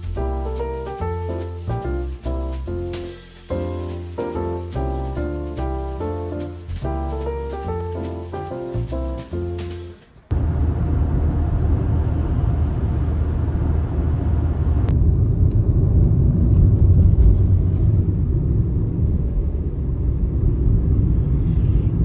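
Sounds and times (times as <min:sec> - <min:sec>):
moving vehicle rumble: 0:00.0 - 0:22.0.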